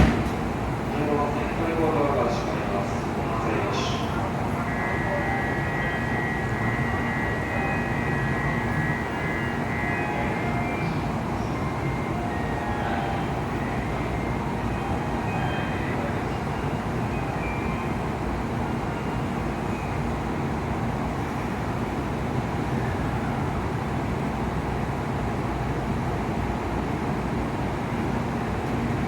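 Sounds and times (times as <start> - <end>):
train rumble and hum: 0.0 - 29.0.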